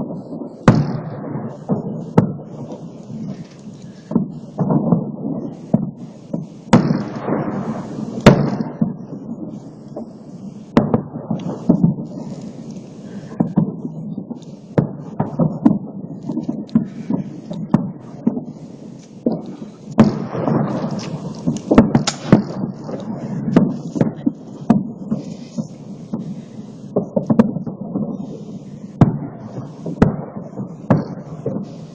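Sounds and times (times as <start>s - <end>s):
fireworks booms and cracks: 0.0s - 31.9s.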